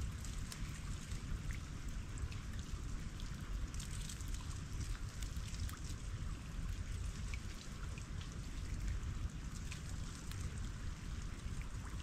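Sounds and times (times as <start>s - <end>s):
ice dripping and trickling: 0.0s - 12.0s.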